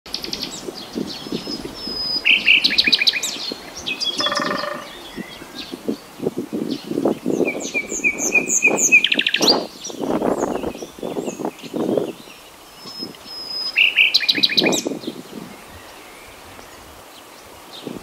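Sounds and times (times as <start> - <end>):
nightingale singing: 0.1 - 6.1, 6.7 - 16.8.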